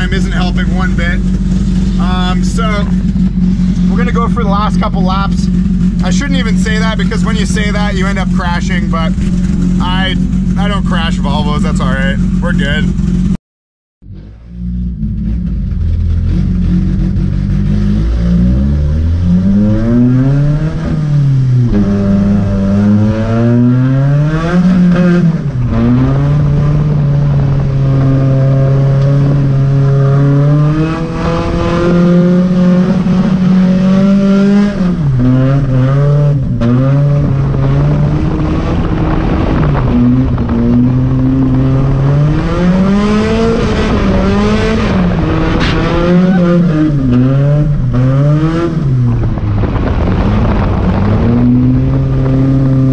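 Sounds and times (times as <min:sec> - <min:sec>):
car engine revving: 0:00.0 - 0:13.4, 0:14.0 - 0:52.9.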